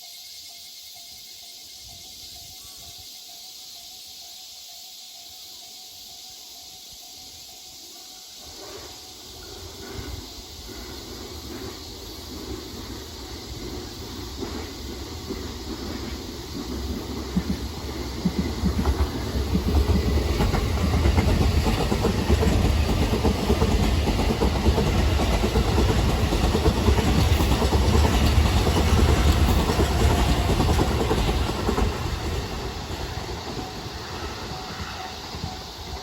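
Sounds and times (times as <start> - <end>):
electric train passing at speed: 0.0 - 36.0.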